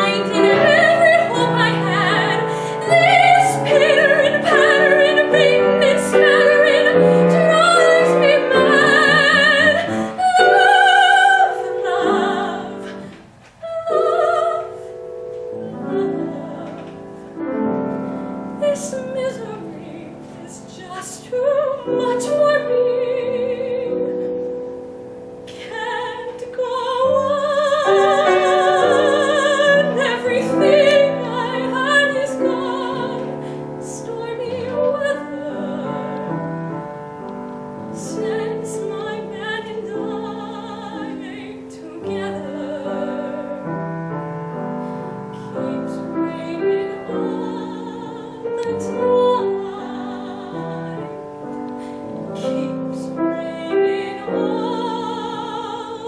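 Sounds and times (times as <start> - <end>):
woman singing a ballad: 0.0 - 24.4, 25.5 - 37.1, 37.8 - 56.0
piano chords: 0.0 - 56.0.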